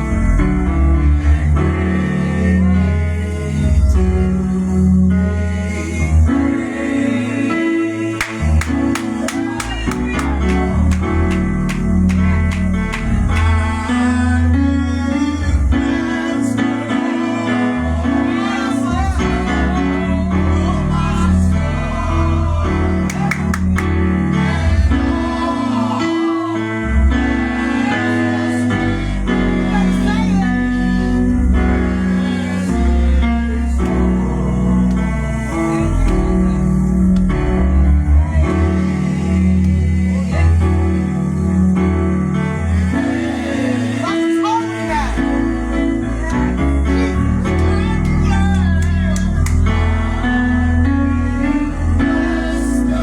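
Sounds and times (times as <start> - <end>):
gospel music: 0.0 - 53.0.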